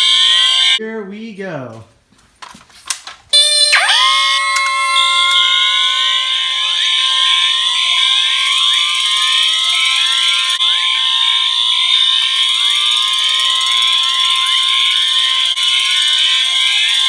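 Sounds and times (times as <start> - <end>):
fire alarms sounding: 0.0 - 0.8, 3.3 - 17.0.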